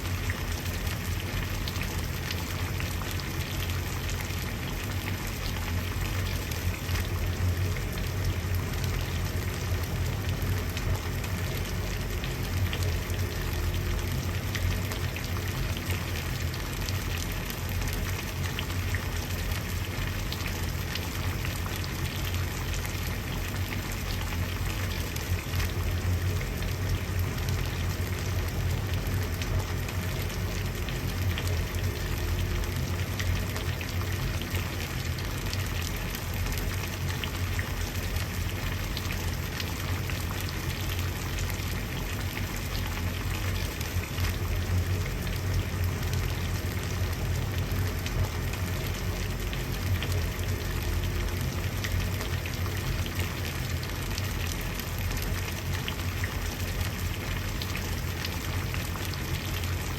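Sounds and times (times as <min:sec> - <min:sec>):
water boiling with bubbling pops: 0:00.0 - 0:59.9.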